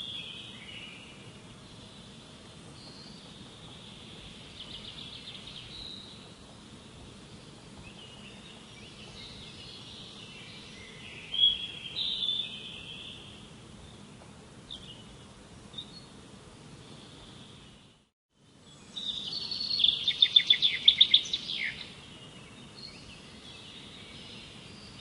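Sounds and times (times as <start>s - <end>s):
low background hiss: 0.0s - 25.0s
songbirds singing: 0.0s - 25.0s.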